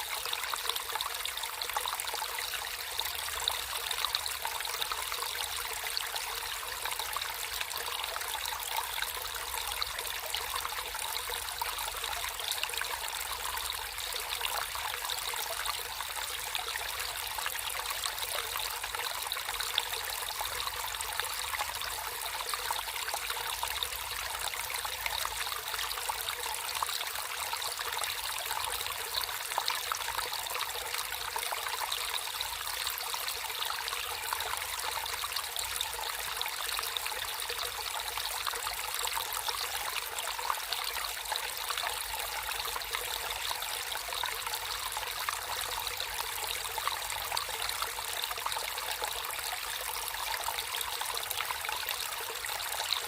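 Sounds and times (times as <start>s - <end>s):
stream babbling over stones: 0.0s - 53.0s.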